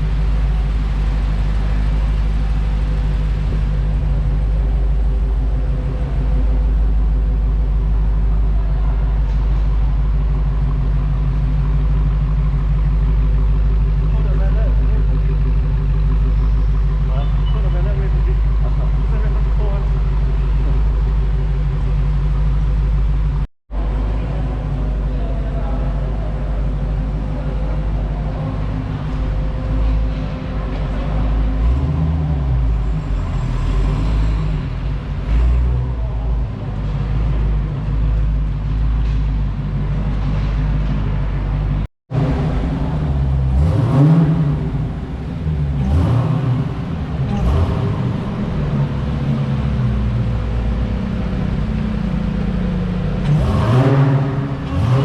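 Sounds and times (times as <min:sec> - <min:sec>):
car engine rumbling and revving: 0:00.0 - 0:55.0.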